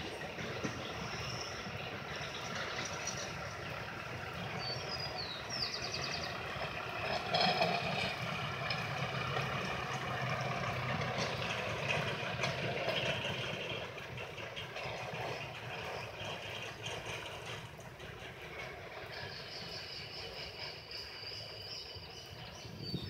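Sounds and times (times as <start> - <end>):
pickup engine running on rails: 0.0 - 23.0.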